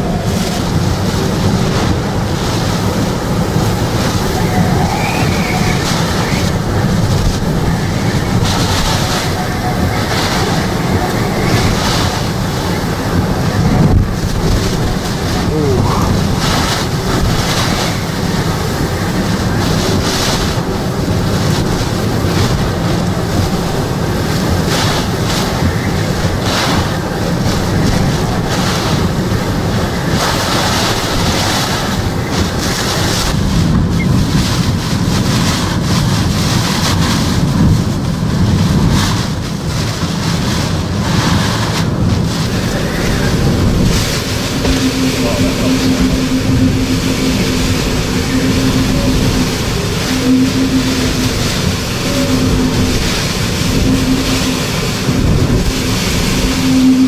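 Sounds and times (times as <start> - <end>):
heavy rain: 0.0 - 57.0
hurricane-force wind: 0.0 - 57.0
wind buffeting microphone: 0.0 - 57.0.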